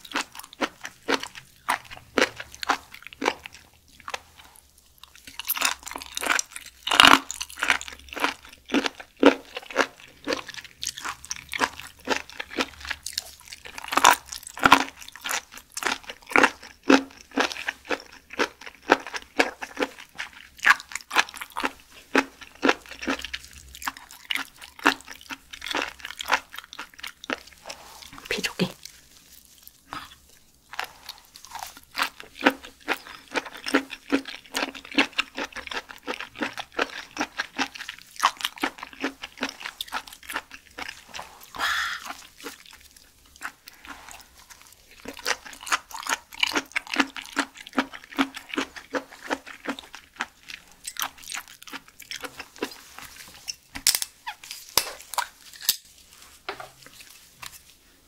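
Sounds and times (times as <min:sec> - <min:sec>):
wet crunchy chewing: 0:00.0 - 0:56.0.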